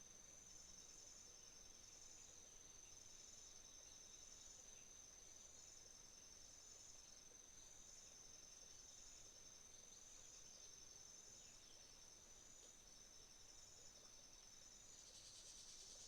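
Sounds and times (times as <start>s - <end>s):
cricket continuous trill: 0.0s - 16.0s
insect pulsed trill: 0.1s - 16.0s.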